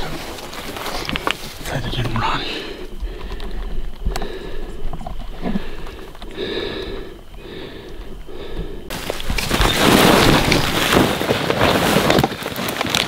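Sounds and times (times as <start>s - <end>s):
grass and clothing rustling: 0.0s - 13.0s.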